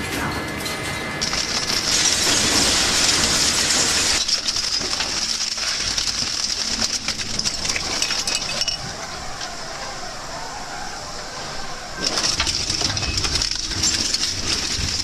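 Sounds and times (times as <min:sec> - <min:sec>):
machinery hissing: 0:01.1 - 0:15.0.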